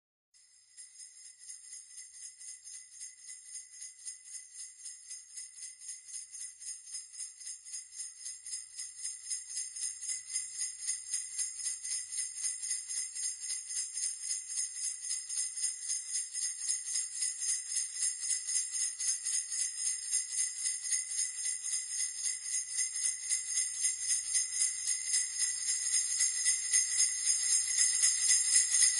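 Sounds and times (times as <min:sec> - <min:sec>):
sleigh bells jingling: 0:00.4 - 0:28.9.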